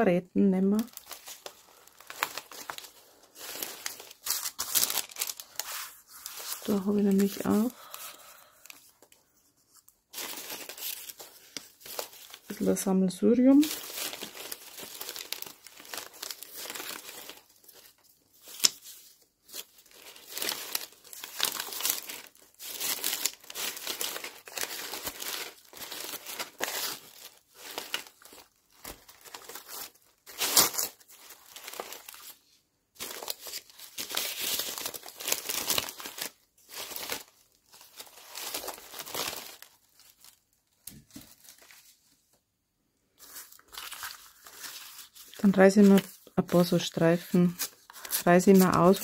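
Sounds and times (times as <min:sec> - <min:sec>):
paper rustling and crinkling: 0:00.8 - 0:42.4, 0:43.2 - 0:49.0.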